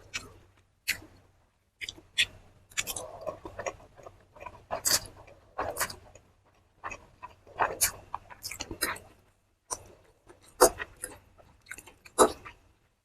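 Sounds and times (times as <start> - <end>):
person chewing crunchy food: 0.0 - 1.2, 1.8 - 12.7.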